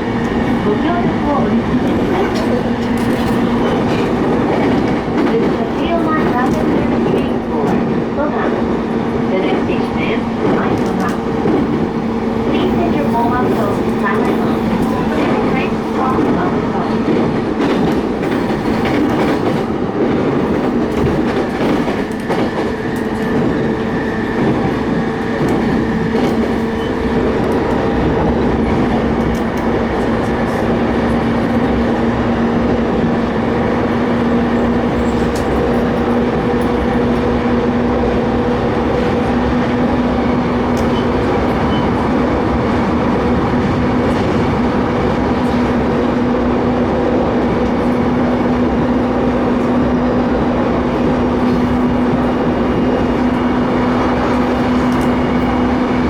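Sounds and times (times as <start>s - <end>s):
train rail rumble: 0.0s - 56.0s.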